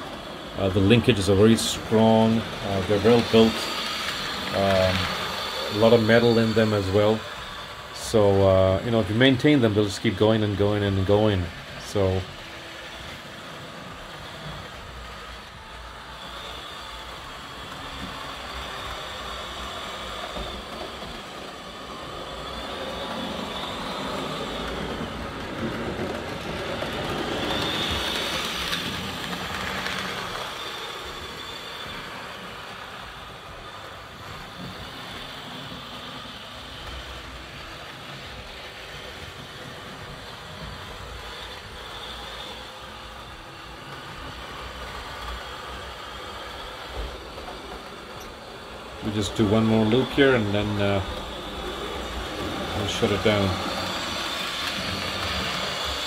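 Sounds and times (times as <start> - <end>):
model train motor whirring: 0.0 - 56.0
wheels rolling on rails: 0.0 - 56.0.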